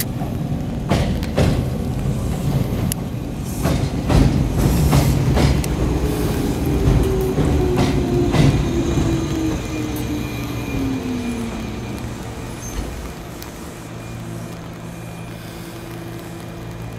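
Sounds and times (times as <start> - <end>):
train wheels clicking over rail joints: 0.0 - 13.8
electric train whine: 0.0 - 16.9.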